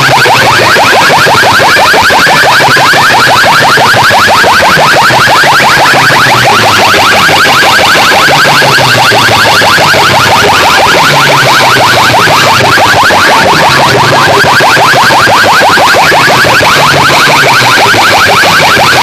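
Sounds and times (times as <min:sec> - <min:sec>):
rapid rising electronic chirps: 0:00.0 - 0:19.0.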